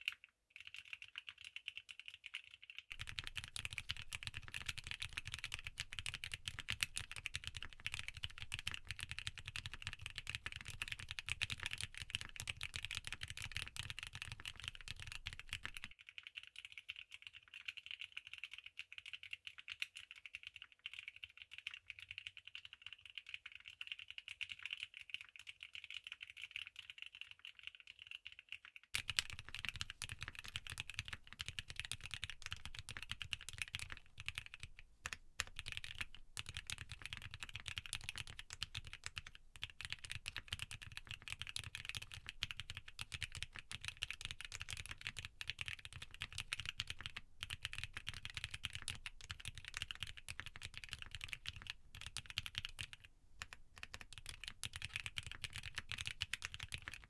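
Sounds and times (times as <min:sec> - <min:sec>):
fast keyboard typing: 0:00.0 - 0:57.0.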